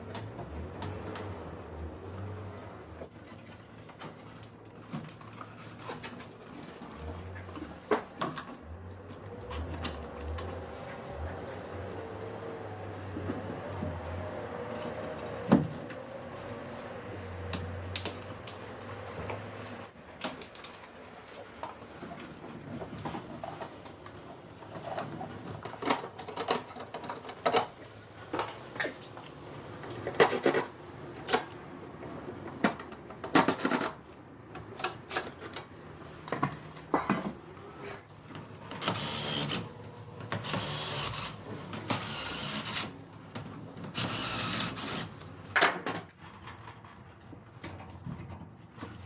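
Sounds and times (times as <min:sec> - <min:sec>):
clicks and knocks of hand work: 0:00.0 - 0:16.6, 0:17.4 - 0:40.7.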